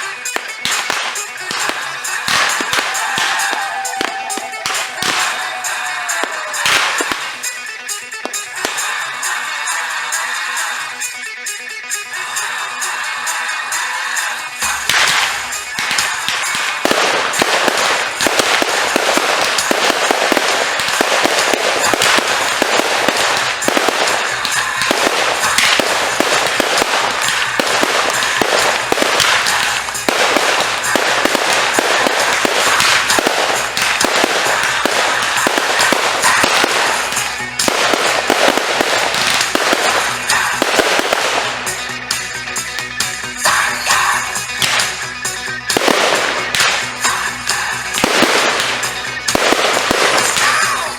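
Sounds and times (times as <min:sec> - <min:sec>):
fireworks crackling and banging: 0:00.0 - 0:50.9
music: 0:00.0 - 0:50.9.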